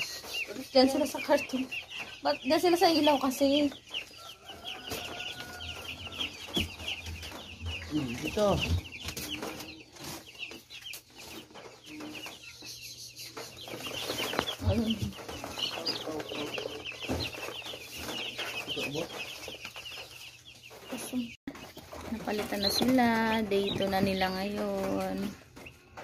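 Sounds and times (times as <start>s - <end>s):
chicks peeping: 0.0s - 26.0s.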